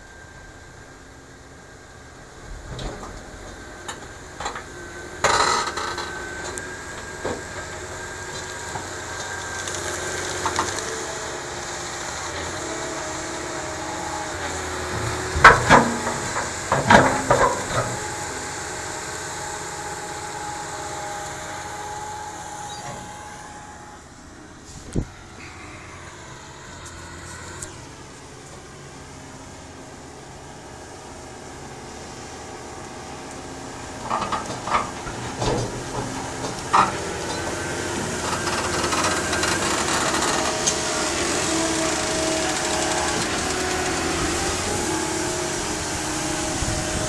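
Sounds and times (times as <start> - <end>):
tractor diesel engine working: 0.0 - 47.0.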